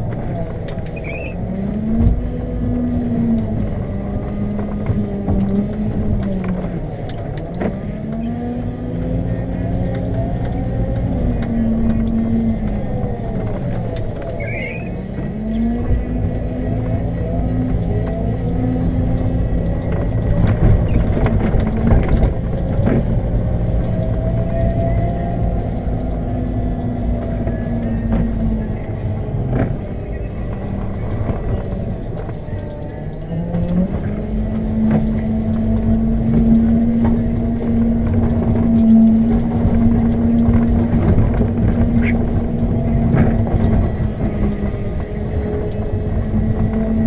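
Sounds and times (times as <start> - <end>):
diesel engine under load: 0.0 - 47.0
plow blade scraping road: 0.0 - 47.0.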